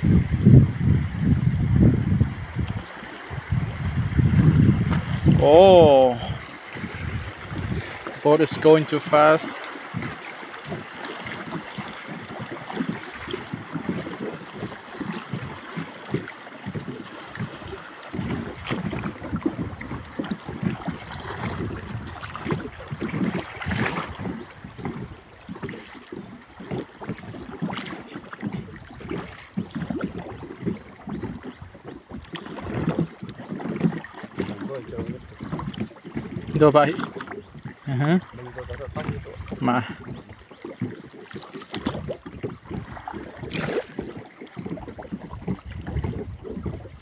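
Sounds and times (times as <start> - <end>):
river water rushing and splashing: 0.0 - 47.0
wind buffeting microphone: 0.0 - 47.0.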